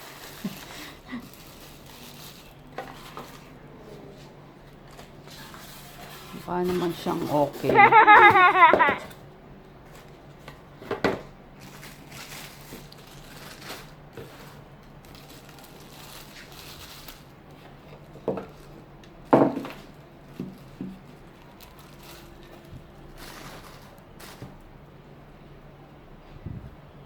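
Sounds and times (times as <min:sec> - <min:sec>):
packaging rustling: 0:00.0 - 0:03.6, 0:04.8 - 0:09.2, 0:09.9 - 0:24.7.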